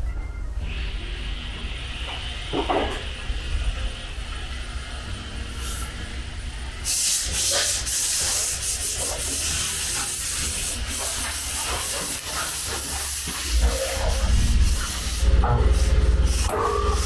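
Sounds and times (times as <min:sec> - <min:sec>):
sanding hiss: 0:00.7 - 0:17.0.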